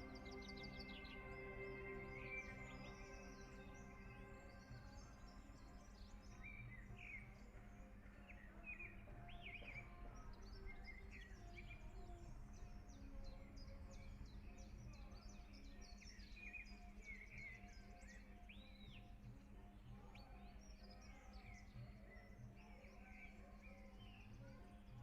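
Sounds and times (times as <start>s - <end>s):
soft background music: 0.0s - 25.0s
songbirds chirping: 0.0s - 25.0s.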